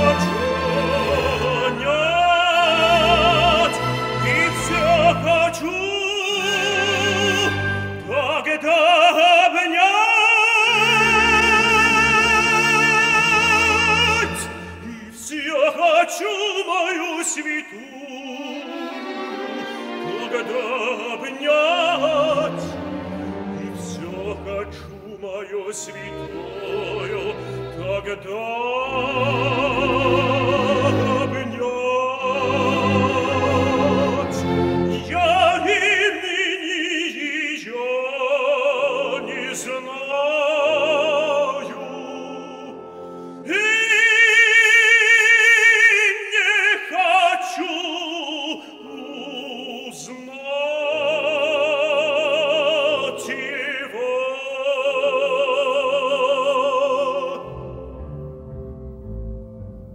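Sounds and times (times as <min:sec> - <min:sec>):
operatic tenor singing: 0:00.0 - 0:59.2
orchestra playing: 0:00.0 - 0:59.9.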